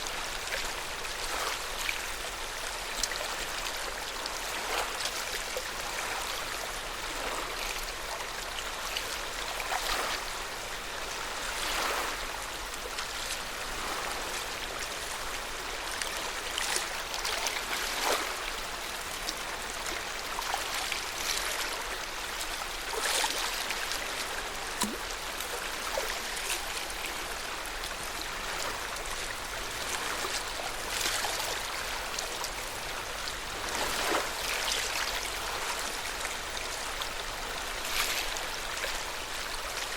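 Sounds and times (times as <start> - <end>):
lake water lapping: 2.8 - 39.9.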